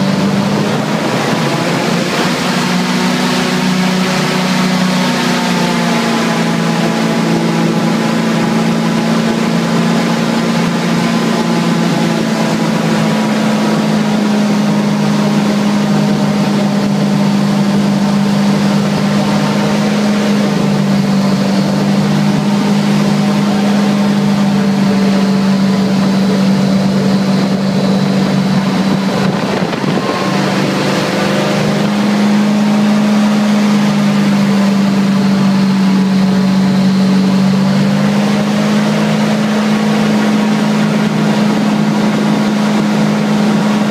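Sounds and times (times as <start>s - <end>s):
airboat engine and propeller drone: 0.0s - 43.9s.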